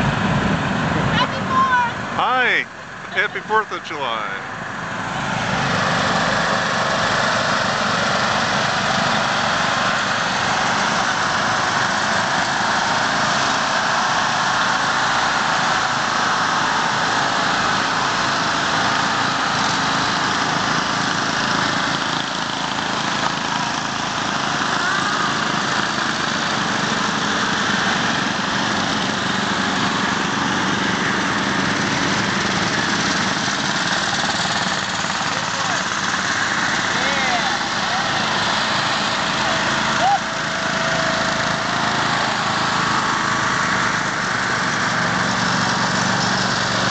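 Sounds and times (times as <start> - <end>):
lawn mower engines running: 0.0 - 46.9.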